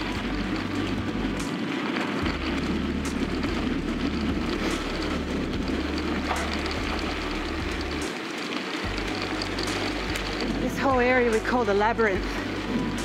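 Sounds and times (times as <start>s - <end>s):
bicycle tyres rolling on dirt: 0.0s - 13.0s
bike clicking over bumps: 0.0s - 13.0s.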